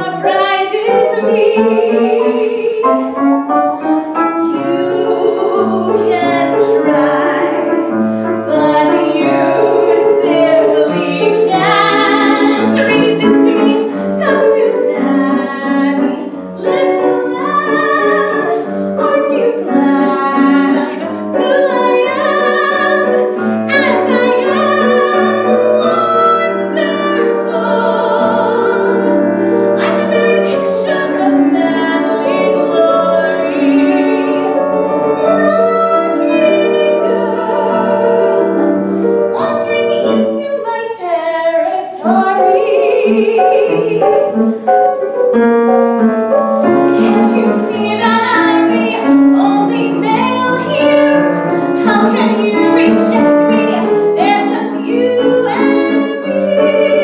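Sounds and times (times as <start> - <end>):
woman singing operatically: 0.0 - 3.2, 4.4 - 7.7, 8.5 - 38.5, 39.3 - 44.4, 46.8 - 57.0
piano accompaniment: 0.0 - 57.0.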